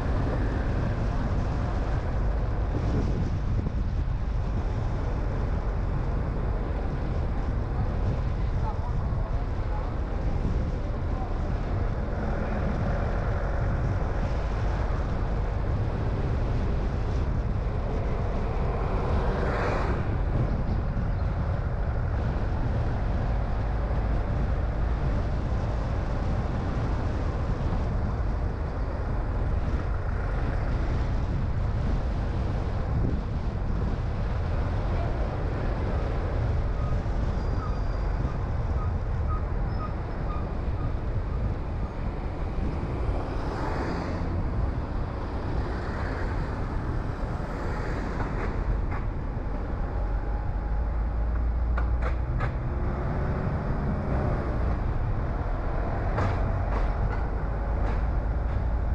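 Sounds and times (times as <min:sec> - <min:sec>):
car road and engine rumble: 0:00.0 - 0:58.9
wind noise: 0:00.0 - 0:58.9.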